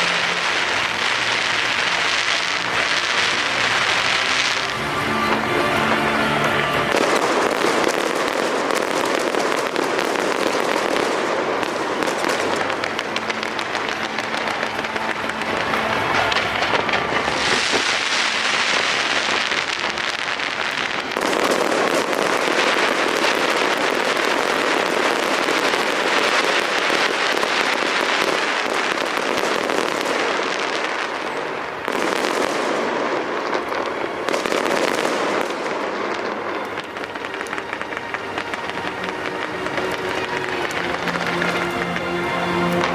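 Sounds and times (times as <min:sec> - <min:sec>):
fireworks crackling: 0:00.0 - 0:42.9.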